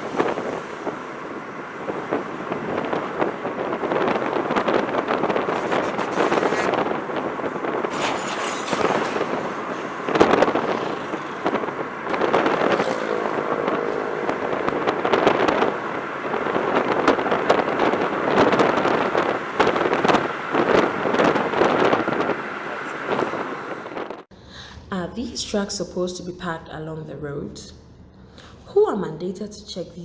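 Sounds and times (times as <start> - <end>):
vehicles passing on busy road: 0.0 - 24.3.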